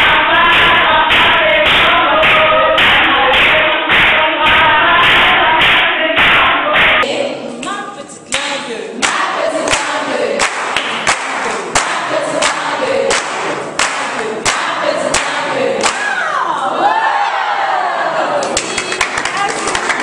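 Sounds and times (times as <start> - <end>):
hands clapping to a beat: 0.0 - 16.1, 18.4 - 20.0
group of people singing: 0.0 - 18.6.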